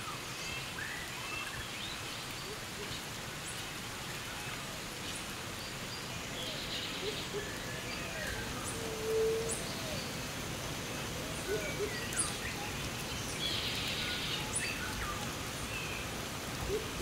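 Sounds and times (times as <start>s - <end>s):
forest birds chirping: 0.0s - 17.0s
light rain hissing: 0.0s - 17.0s.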